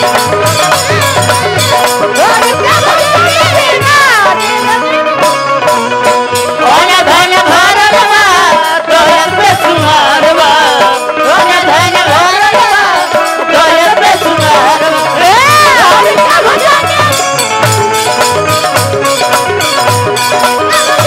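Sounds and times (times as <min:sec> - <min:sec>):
hand drum beats: 0:00.0 - 0:21.0
held accompanying notes: 0:00.0 - 0:21.0
person singing folk song: 0:00.0 - 0:21.0.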